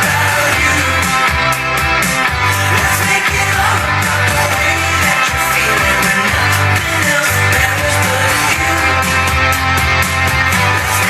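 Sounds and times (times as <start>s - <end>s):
pop-rock song over speaker: 0.0s - 11.0s.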